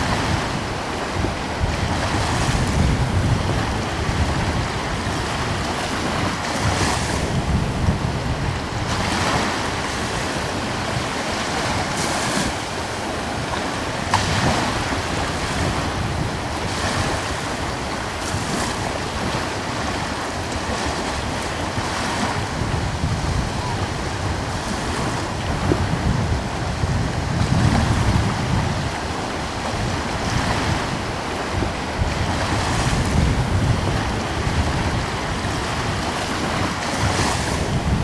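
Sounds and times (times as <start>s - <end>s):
small sea waves breaking: 0.0s - 38.0s
wind rumbling on microphone: 0.0s - 38.0s.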